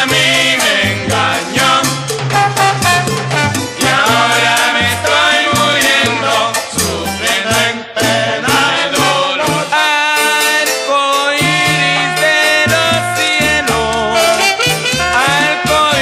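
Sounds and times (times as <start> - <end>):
salsa music: 0.0 - 16.0.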